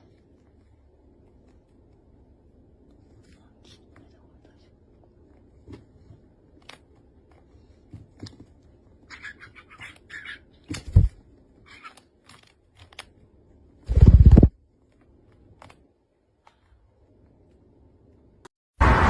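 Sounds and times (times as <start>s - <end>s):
rabbit nibbling: 0.0s - 18.2s.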